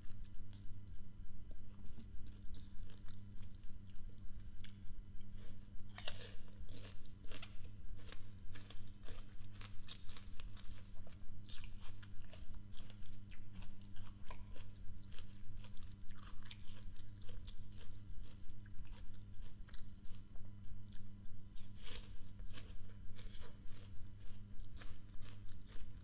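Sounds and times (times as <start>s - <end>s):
steady low hum: 0.0s - 26.0s
wet crunching of chewed fruit: 1.6s - 26.0s.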